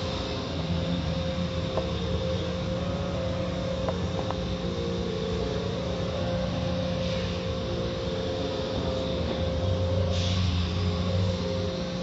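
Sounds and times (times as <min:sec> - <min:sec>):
car wash machinery humming: 0:00.0 - 0:12.0.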